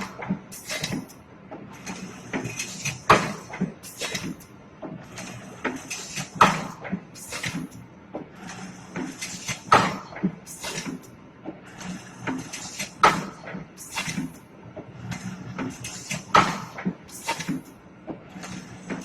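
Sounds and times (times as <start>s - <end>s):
machine knocking and clacking: 0.0s - 19.0s.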